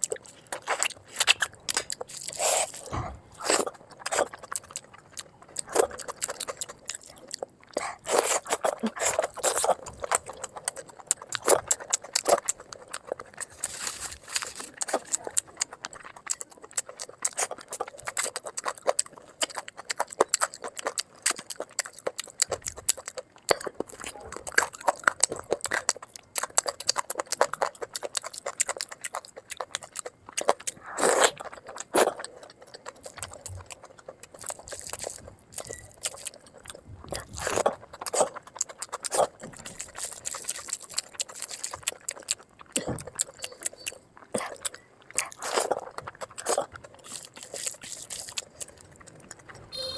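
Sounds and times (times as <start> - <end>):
rapid crunching and chewing: 0.0 - 49.9.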